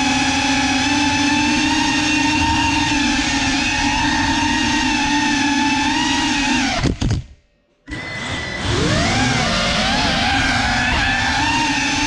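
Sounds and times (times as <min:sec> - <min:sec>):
drone motors and propellers whining: 0:00.0 - 0:07.2, 0:07.9 - 0:12.0.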